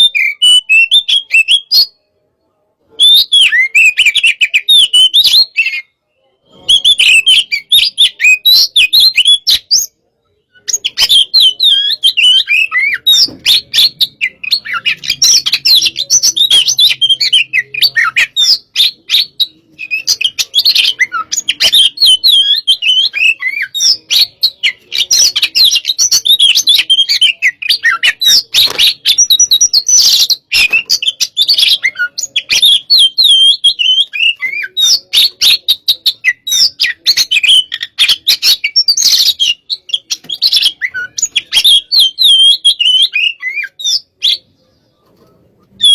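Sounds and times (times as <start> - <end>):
bird singing with varied chirps: 0.0 - 45.9.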